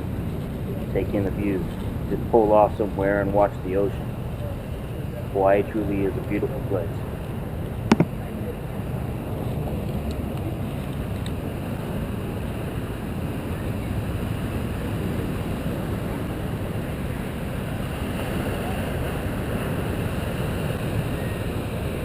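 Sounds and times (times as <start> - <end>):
ocean surf: 0.0 - 22.0.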